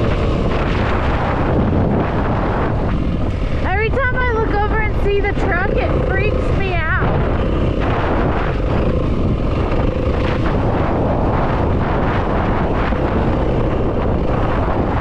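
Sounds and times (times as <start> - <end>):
dirt bike engine running: 0.0 - 15.0
wind rumble on microphone: 0.0 - 15.0.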